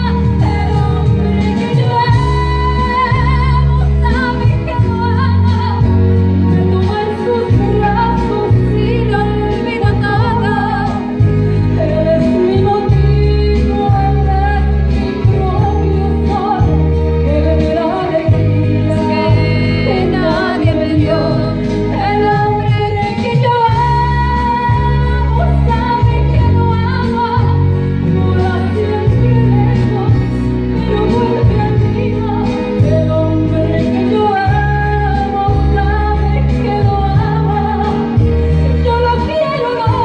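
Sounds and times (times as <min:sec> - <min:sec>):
instrumental accompaniment with bass: 0:00.0 - 0:40.0
woman singing into a microphone: 0:00.0 - 0:40.0.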